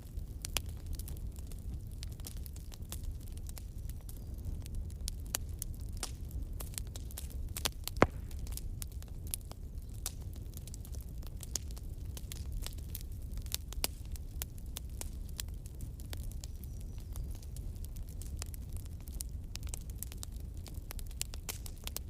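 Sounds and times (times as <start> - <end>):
bonfire crackling and popping: 0.0 - 22.0
low fire rumble: 0.0 - 22.0.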